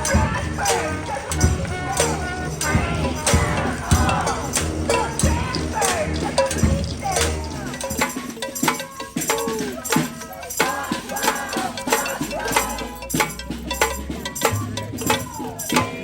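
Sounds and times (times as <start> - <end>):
hand percussion rattling: 0.0 - 16.0
voices whooping: 0.0 - 16.0.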